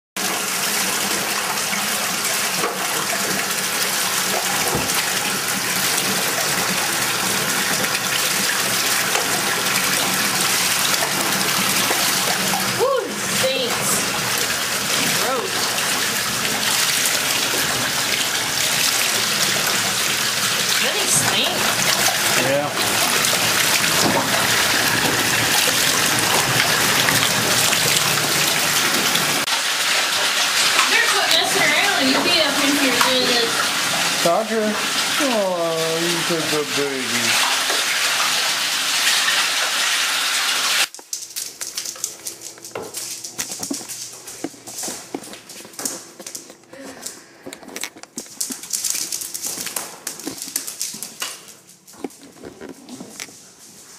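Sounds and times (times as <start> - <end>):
water running into a bathtub: 0.2 - 53.9.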